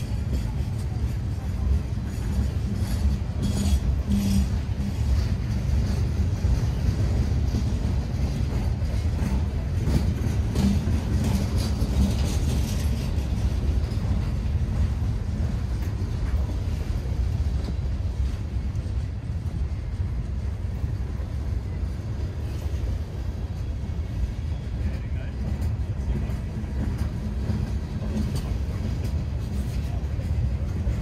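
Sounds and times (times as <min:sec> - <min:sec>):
train wheel clicks: 0:00.0 - 0:19.6, 0:25.0 - 0:31.0
freight train rumbling on rails: 0:00.0 - 0:31.0.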